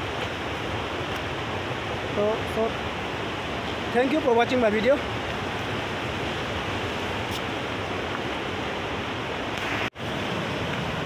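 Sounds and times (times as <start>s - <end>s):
fast river rushing: 0.0s - 11.0s.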